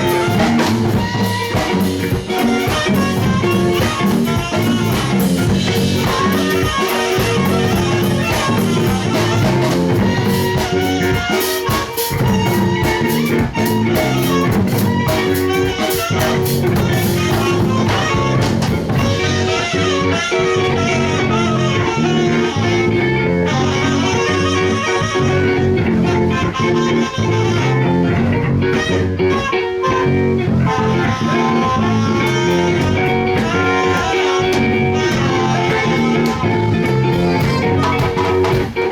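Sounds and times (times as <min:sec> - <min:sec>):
drum kit: 0:00.0 - 0:38.9
electric guitar playing: 0:00.0 - 0:38.9.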